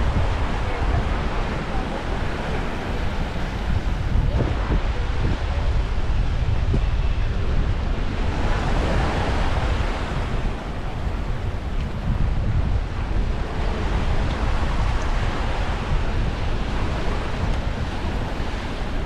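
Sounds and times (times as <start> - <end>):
waves washing onto sand: 0.0 - 19.0
wind buffeting microphone: 0.0 - 19.0.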